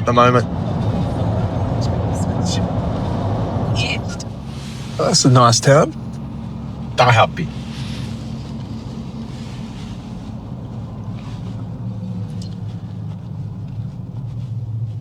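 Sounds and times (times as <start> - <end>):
car engine and tyres hum: 0.0 - 15.0.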